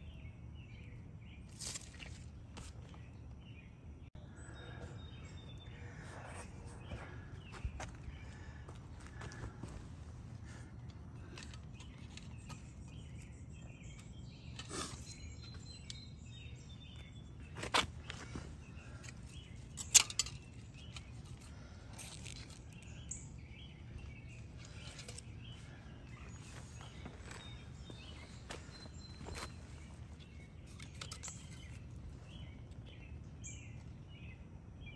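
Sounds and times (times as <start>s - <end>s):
faint bird chirps: 2.9s - 34.9s.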